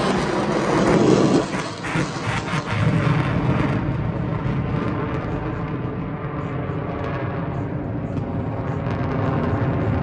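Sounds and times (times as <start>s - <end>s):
jet engine low rumble: 0.0s - 10.0s.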